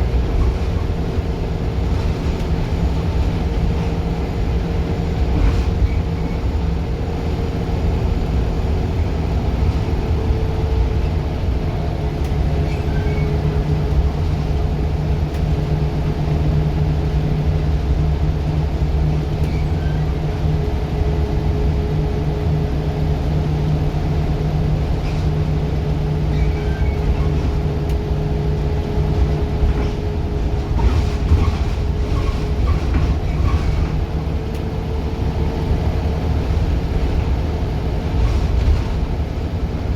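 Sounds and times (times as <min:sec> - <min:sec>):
diesel bus engine rumbling: 0:00.0 - 0:39.9.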